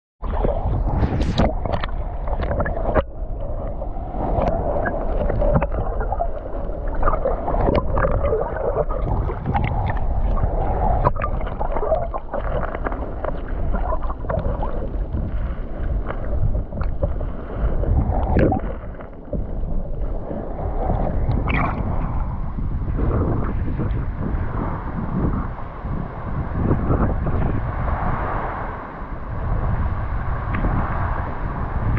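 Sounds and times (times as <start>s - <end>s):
muffled underwater rushing: 0.2s - 31.9s.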